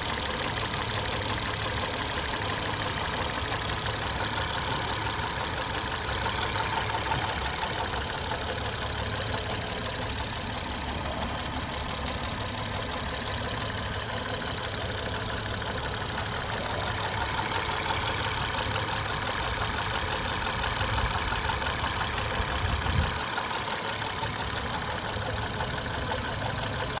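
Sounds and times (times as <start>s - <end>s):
car engine idling: 0.0s - 27.0s
fast light engine tapping: 0.0s - 27.0s.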